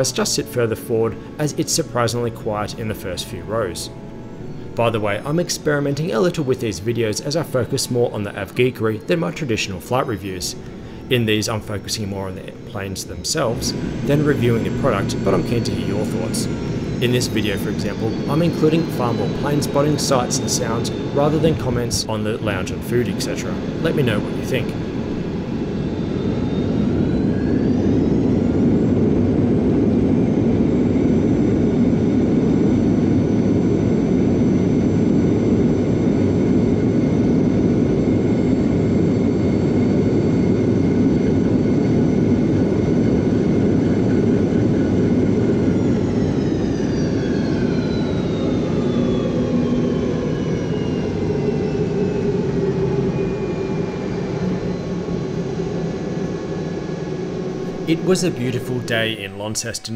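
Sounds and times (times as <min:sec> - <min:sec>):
jet engine roar and whine: 0:00.0 - 0:59.9.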